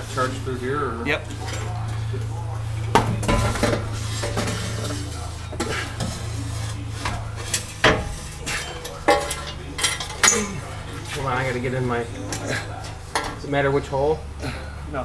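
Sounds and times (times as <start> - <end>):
metal exhaust pipe scraping: 0.0 - 13.7.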